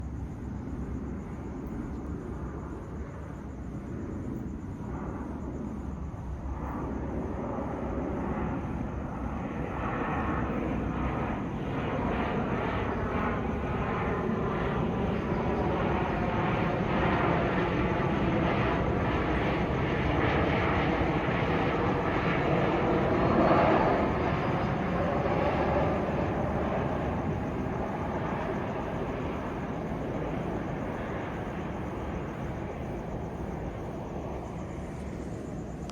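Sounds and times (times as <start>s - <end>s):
jet airliner flying over: 0.0s - 35.9s.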